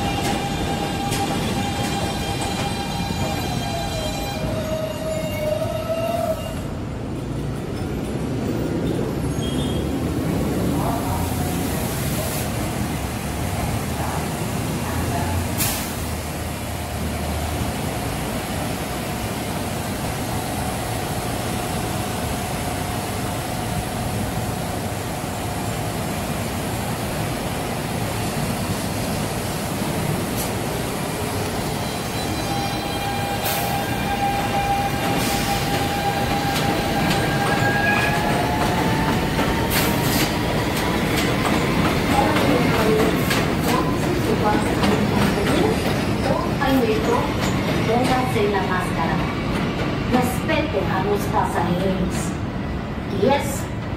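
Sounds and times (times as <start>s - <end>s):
subway train rumble and hum: 0.0s - 53.9s.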